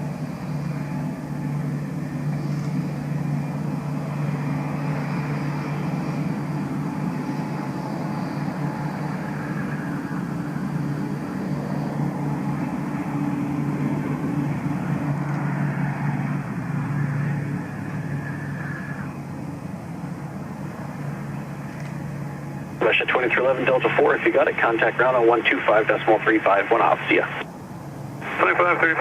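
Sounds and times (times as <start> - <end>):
engine hum with rushing noise: 0.0 - 29.0.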